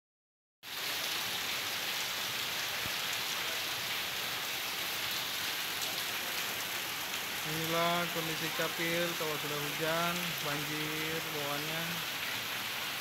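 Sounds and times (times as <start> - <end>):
heavy rain falling: 0.6 - 13.0
water streaming onto tiled floor: 0.6 - 13.0.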